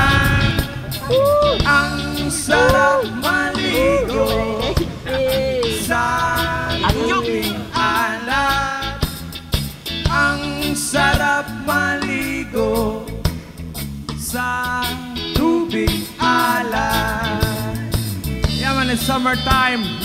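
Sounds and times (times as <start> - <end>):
song with steady beat: 0.0 - 20.0.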